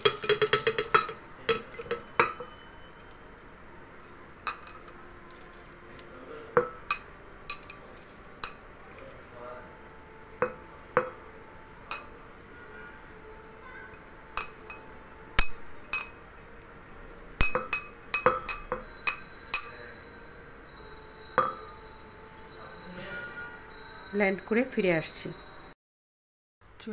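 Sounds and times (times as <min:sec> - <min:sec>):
ceramic bowl clinking on glass: 0:00.0 - 0:03.3, 0:04.0 - 0:09.2, 0:10.1 - 0:24.6.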